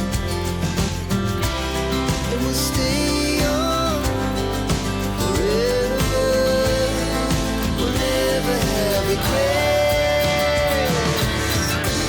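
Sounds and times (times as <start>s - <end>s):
pop song with guitar and beat: 0.0s - 12.0s.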